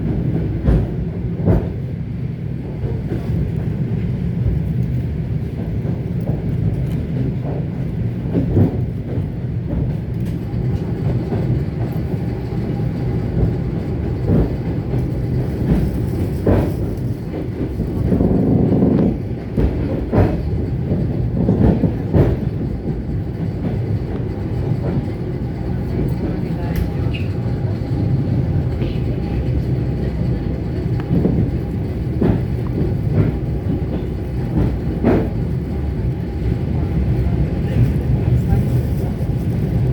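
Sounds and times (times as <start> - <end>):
train rumbling along track: 0.0 - 39.9
wheels knocking on rails: 5.4 - 38.6.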